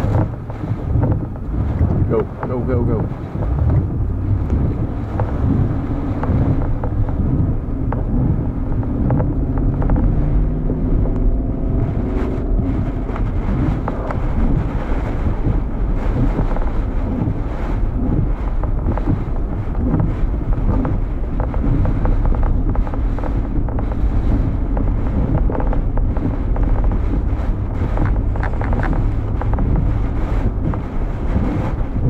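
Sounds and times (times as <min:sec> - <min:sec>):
faint engine hum: 0:00.0 - 0:32.0
wind and road noise in car: 0:00.0 - 0:32.0.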